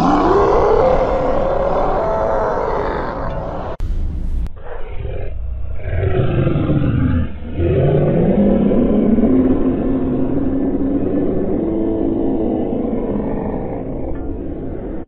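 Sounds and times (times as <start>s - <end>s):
slowed scream deep drone: 0.0s - 15.0s.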